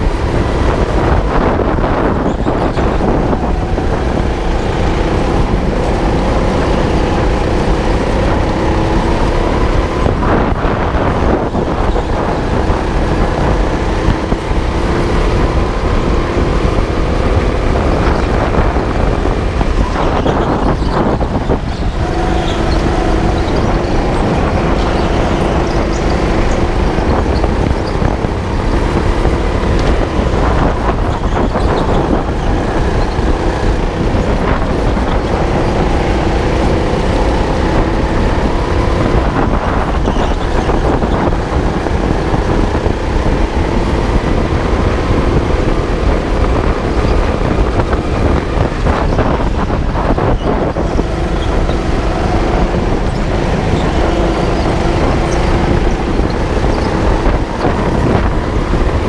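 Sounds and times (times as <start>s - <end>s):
go-kart engine running flat out: 10.8s - 59.0s.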